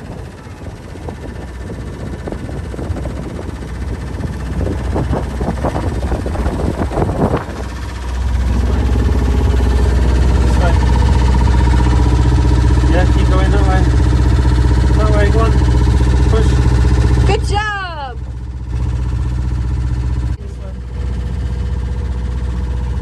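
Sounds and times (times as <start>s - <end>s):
boat engine running: 0.0s - 23.0s
water noise: 0.0s - 23.0s
wind: 0.0s - 23.0s.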